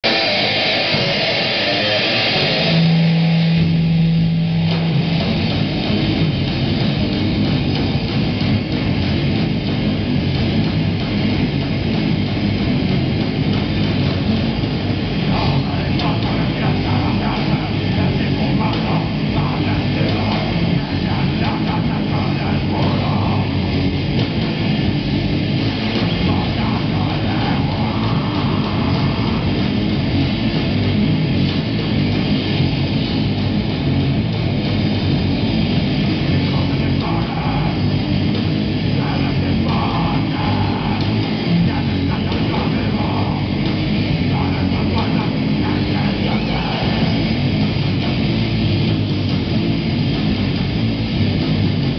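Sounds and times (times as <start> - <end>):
heavy metal band playing live: 0.0 - 51.9.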